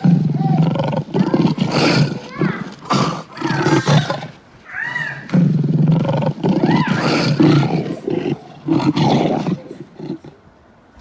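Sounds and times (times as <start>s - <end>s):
lion roaring: 0.0s - 10.4s.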